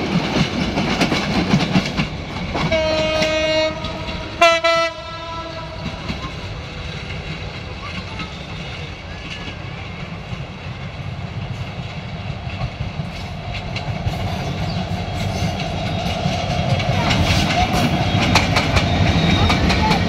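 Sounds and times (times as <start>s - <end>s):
train engine rumble: 0.0s - 20.0s
train wheels on rails: 0.0s - 20.0s
wheels clicking over rail joints: 0.0s - 20.0s.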